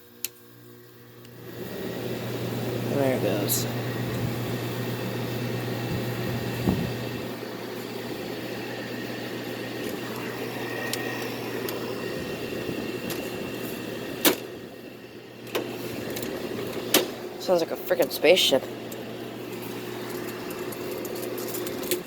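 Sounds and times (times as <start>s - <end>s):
air conditioner running: 0.0s - 22.0s.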